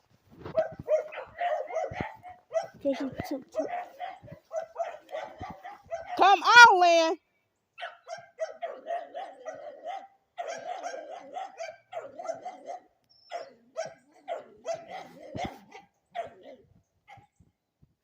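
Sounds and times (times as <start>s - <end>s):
dog barking: 0.5s - 6.4s, 7.8s - 17.3s.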